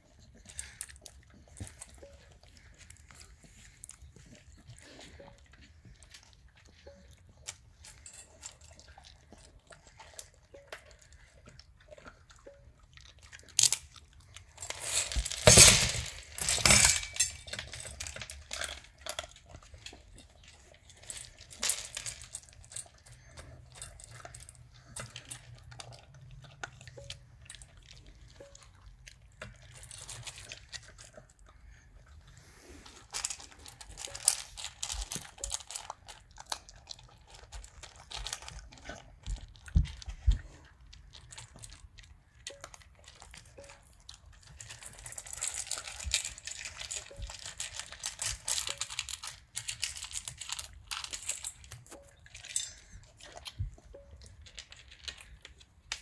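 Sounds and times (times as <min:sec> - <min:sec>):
dog crunching dry kibble: 0:00.0 - 0:56.0.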